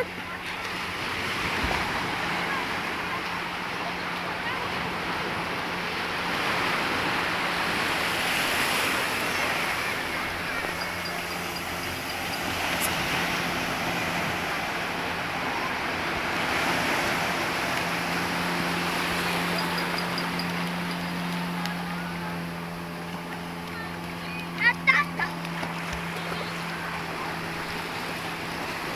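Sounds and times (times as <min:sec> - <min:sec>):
low motor hum: 0:00.0 - 0:28.9
sea water: 0:00.0 - 0:28.9.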